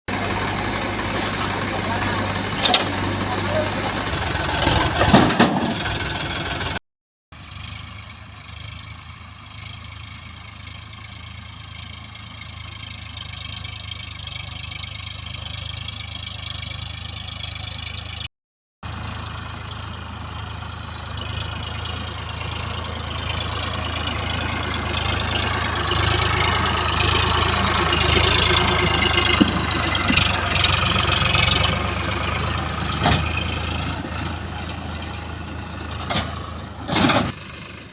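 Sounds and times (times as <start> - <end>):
diesel engine of earth-moving machinery: 0.1 - 37.9.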